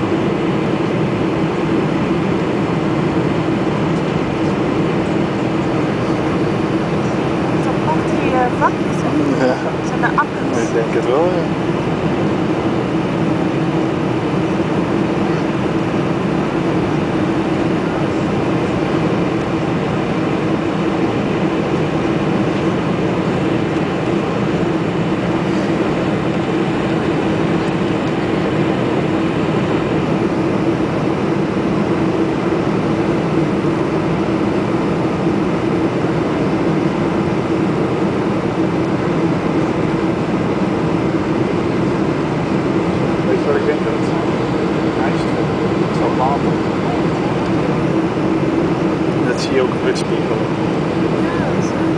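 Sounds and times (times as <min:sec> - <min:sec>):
aircraft engine noise: 0:00.0 - 0:51.9
airflow rush in aircraft cabin: 0:00.0 - 0:51.9
constant low hum: 0:00.0 - 0:51.9.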